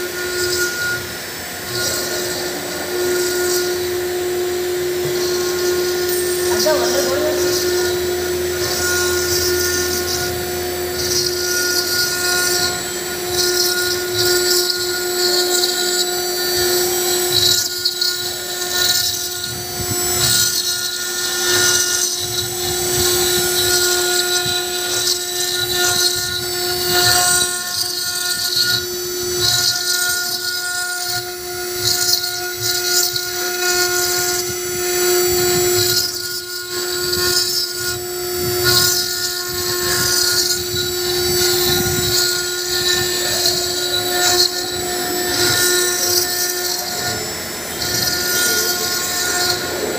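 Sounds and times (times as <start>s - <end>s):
bit grinding stone: 0.0s - 49.9s
router spindle whining: 0.0s - 49.9s.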